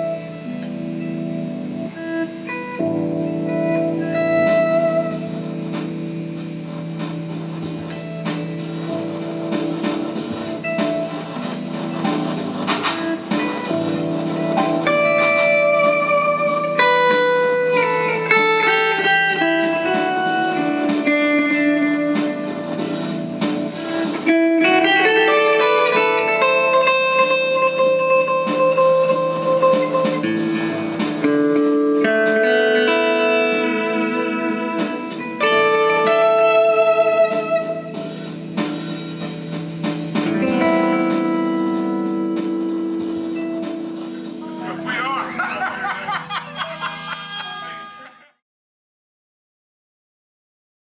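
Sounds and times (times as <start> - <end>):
solo guitar melody: 0.0 - 45.5.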